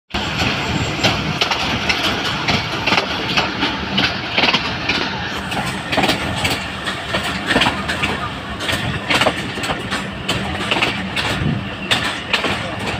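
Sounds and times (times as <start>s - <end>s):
train rumbling on track: 0.1s - 12.9s
wheel clatter over rail joints: 0.2s - 12.9s.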